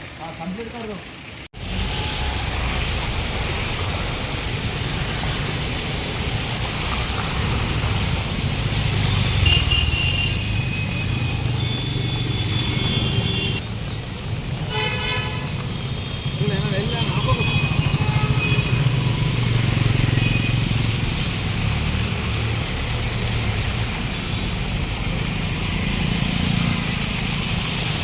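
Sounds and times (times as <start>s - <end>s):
heavy rain hissing: 0.0s - 14.8s, 15.4s - 28.0s
road traffic rumble: 0.0s - 28.0s.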